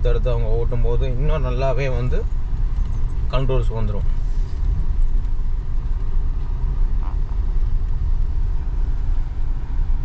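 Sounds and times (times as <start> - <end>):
car rumble on dirt: 0.0 - 10.0.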